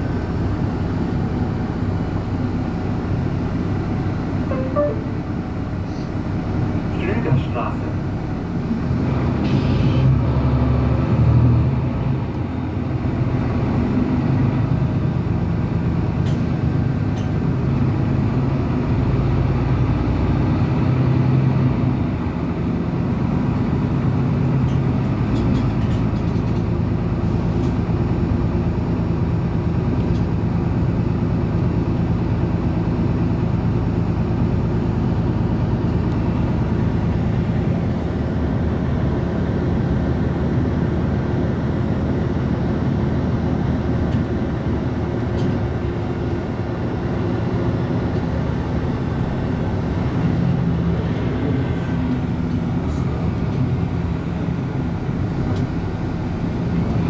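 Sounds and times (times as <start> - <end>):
bus drivetrain and tyre drone: 0.0 - 57.0.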